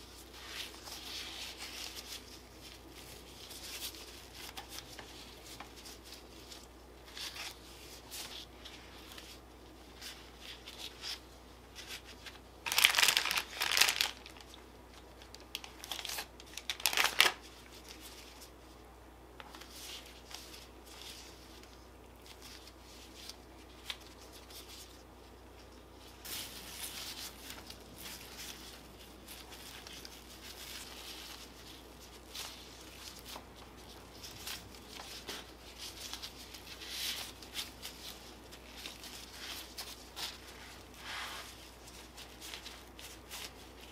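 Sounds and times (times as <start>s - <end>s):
plastic crinkling: 0.0s - 18.6s, 19.4s - 43.9s
soft rustling and handling: 0.0s - 43.9s.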